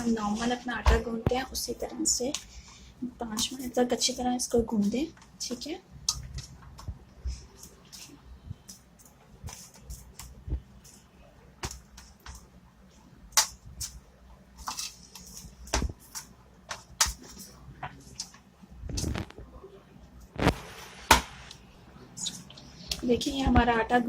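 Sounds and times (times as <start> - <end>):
dough being kneaded by hand: 0.0 - 19.6.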